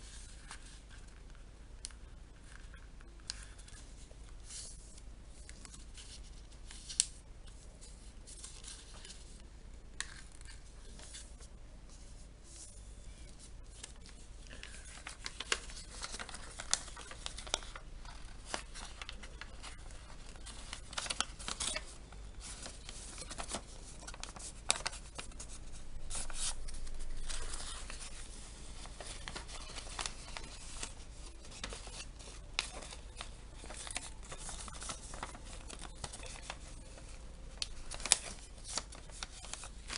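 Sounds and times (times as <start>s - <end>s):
paper rustling and crinkling: 0.0s - 9.4s, 10.0s - 39.9s.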